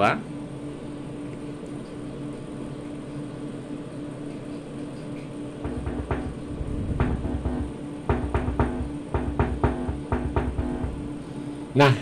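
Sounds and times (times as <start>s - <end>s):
amplifier hum and fan noise: 0.0s - 12.0s
loud pulsing mains buzz: 0.0s - 12.0s.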